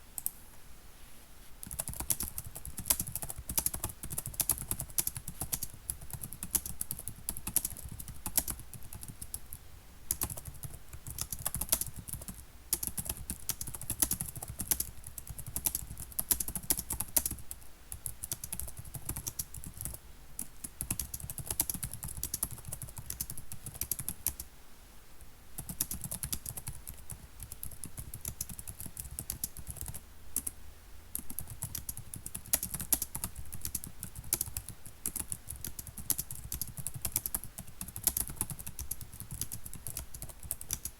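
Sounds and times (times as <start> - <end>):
typing on computer keyboard: 1.6 - 24.5, 25.6 - 30.6, 31.2 - 40.9.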